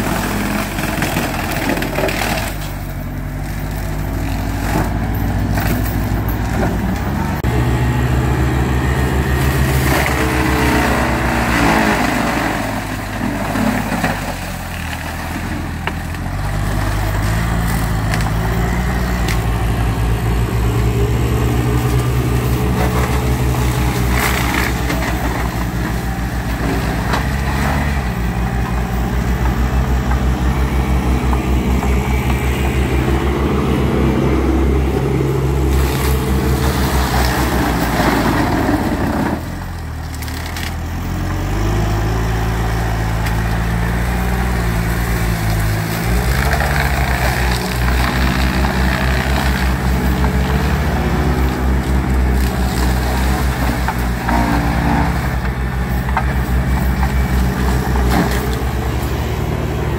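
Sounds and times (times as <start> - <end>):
diesel engine under load: 0.0 - 59.9
mulcher chewing through brush: 0.0 - 59.9.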